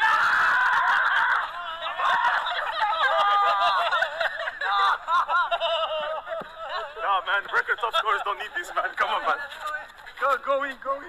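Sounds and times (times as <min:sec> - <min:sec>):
men laughing: 0:00.0 - 0:09.5.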